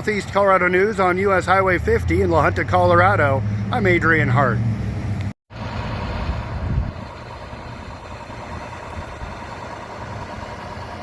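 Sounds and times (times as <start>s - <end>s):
low hum of traffic: 0.0s - 11.0s
vehicle passing close: 1.5s - 11.0s.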